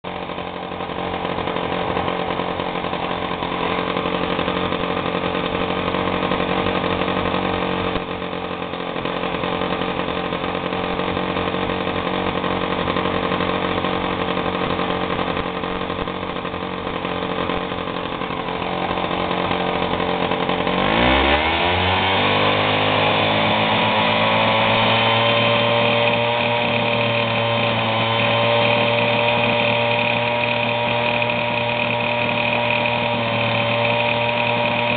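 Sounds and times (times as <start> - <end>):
moped engine running and revving: 0.0 - 34.9.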